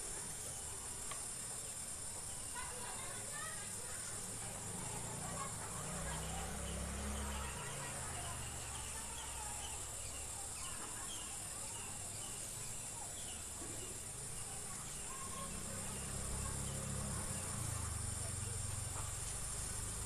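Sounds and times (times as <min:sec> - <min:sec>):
high insect buzz: 0:00.0 - 0:20.0
birds chirping: 0:00.1 - 0:20.0.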